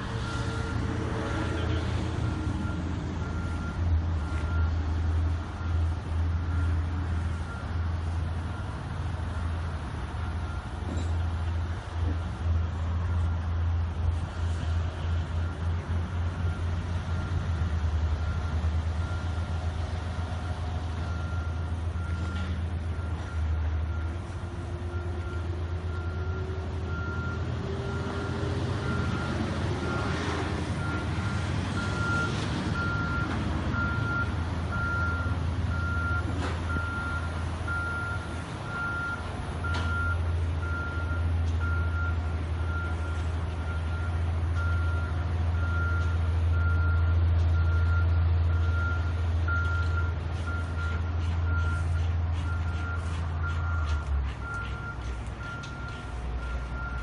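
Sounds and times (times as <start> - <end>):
diesel engine idling: 0.0 - 57.0
reversing alarm beeping: 0.1 - 11.2, 15.2 - 30.2, 30.8 - 57.0.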